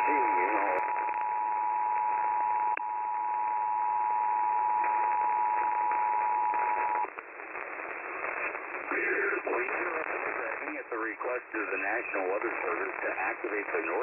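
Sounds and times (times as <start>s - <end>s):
radio hiss: 0.0s - 2.4s, 4.8s - 14.0s.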